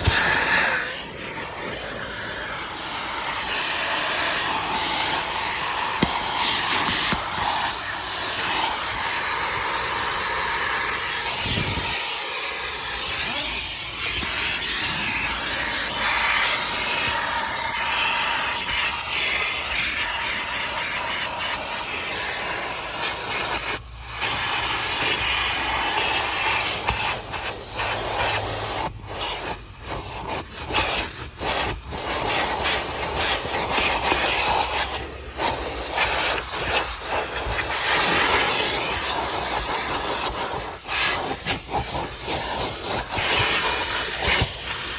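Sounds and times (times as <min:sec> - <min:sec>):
nozzle rubbing car interior: 0:00.0 - 0:44.9
vacuum cleaner running: 0:00.0 - 0:44.9.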